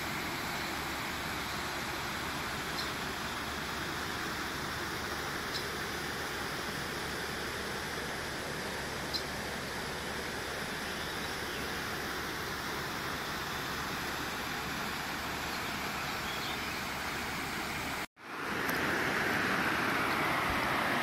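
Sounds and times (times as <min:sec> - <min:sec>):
river water rushing over spillway: 0:00.0 - 0:21.0
wind: 0:00.0 - 0:21.0.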